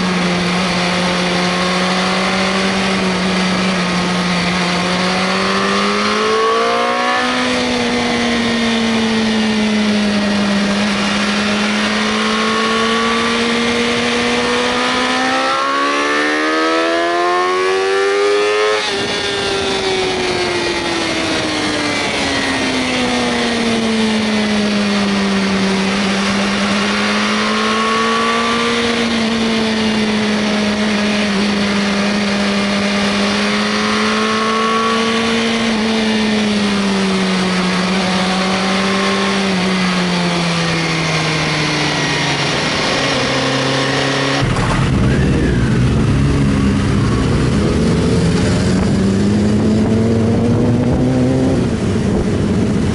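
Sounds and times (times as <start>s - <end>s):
motorcycle engine revving: 0.0s - 52.9s
wind noise: 0.0s - 52.9s.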